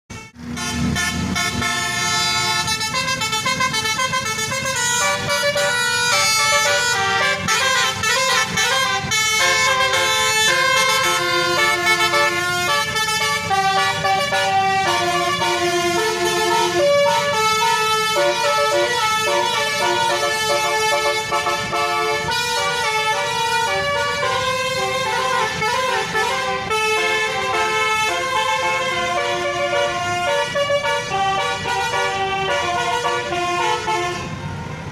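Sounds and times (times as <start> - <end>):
multi-tone bus air horns: 0.1 - 34.9.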